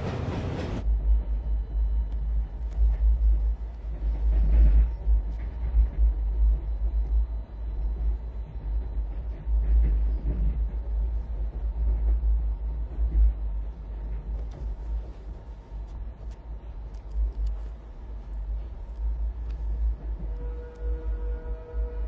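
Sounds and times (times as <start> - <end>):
moving train rumble: 0.0 - 22.0.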